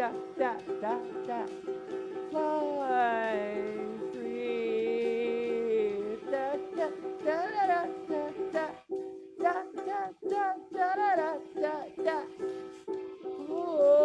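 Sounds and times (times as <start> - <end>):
acoustic guitar strumming chords: 0.0 - 13.7
person singing: 0.0 - 14.0.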